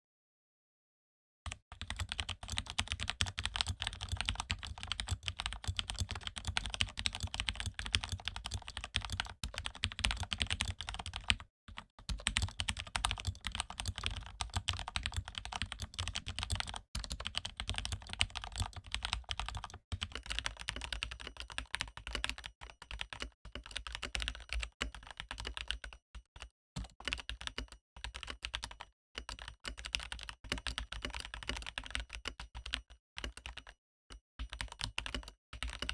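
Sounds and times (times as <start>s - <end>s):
fast mechanical keyboard typing: 1.5s - 33.8s, 34.4s - 35.9s.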